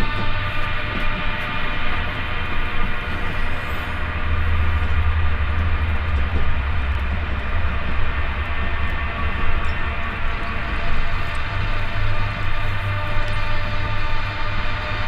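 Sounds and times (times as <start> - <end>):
train rumble from inside carriage: 0.0 - 15.0.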